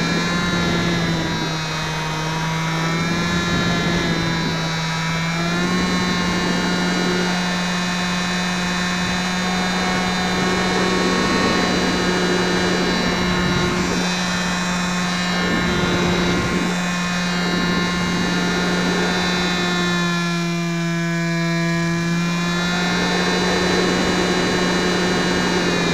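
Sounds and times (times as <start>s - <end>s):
model plane motor droning: 0.0s - 25.9s.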